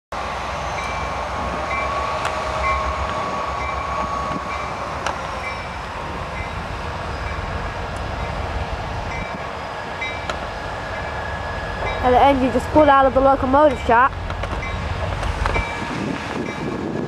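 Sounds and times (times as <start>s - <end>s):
diesel locomotive rumble: 0.1s - 17.0s.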